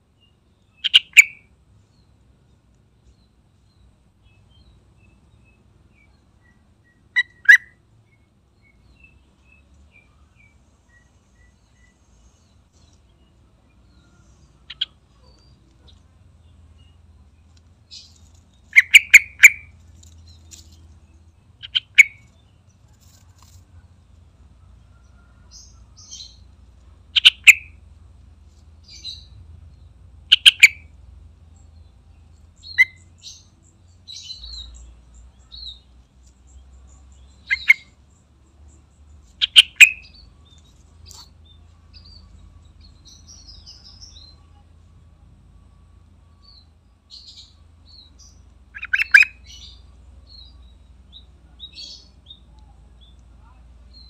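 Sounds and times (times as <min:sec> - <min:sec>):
faint high bird chirps: 0:00.0 - 0:02.2, 0:03.0 - 0:23.9, 0:24.6 - 0:27.9, 0:28.8 - 0:54.0
bird singing loud phrases: 0:00.1 - 0:02.2, 0:03.1 - 0:17.1, 0:17.9 - 0:22.8, 0:27.2 - 0:27.8, 0:28.8 - 0:44.8, 0:46.4 - 0:54.0.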